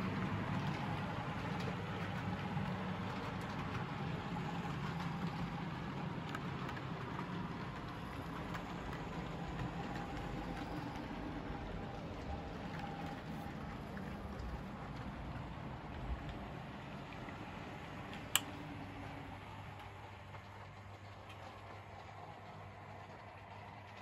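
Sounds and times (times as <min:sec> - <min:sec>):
model train motor hum and rumble: 0:00.0 - 0:24.0.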